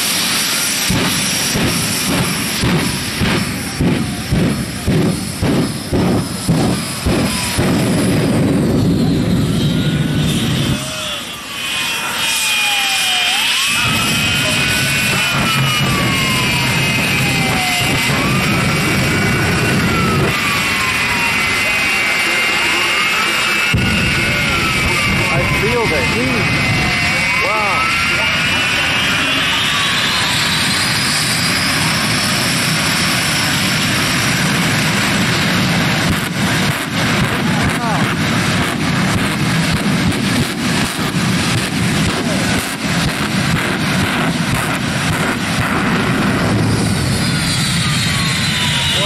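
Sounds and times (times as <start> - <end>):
jet engine roaring: 0.0 - 49.0
siren wailing: 0.1 - 49.0.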